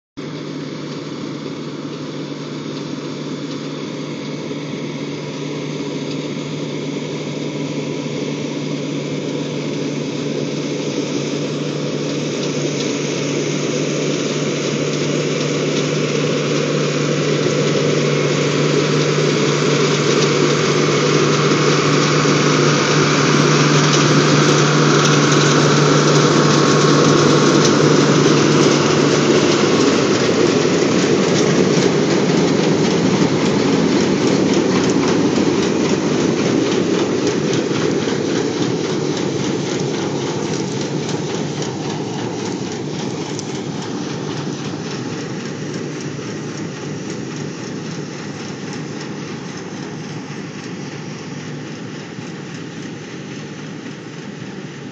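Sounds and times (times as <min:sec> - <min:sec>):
combine harvester mechanical noise: 0:00.2 - 0:54.9
tractor diesel engine running: 0:00.2 - 0:54.9.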